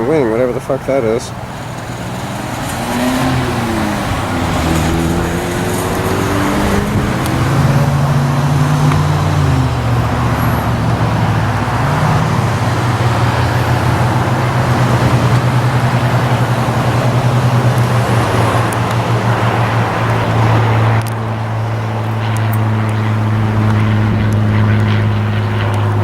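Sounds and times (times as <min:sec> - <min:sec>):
propeller plane engine droning: 0:00.0 - 0:26.0.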